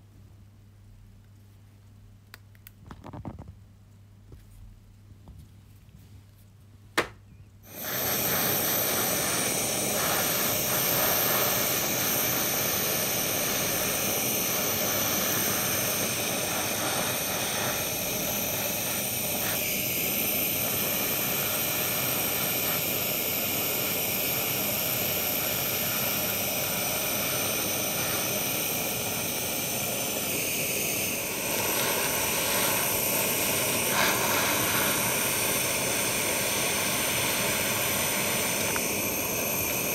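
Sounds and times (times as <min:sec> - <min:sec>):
gas torch hissing: 0:07.6 - 0:39.9.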